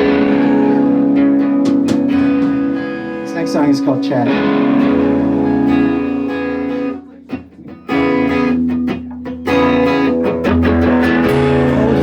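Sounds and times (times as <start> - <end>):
electric guitar chords strummed: 0.0 - 12.0
live band playing: 0.0 - 12.0.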